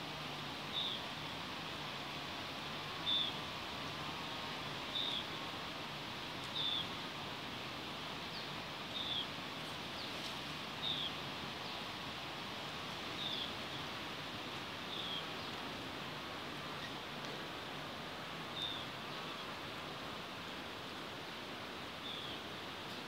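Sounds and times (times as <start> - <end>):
forest ambience hiss: 0.0 - 23.0.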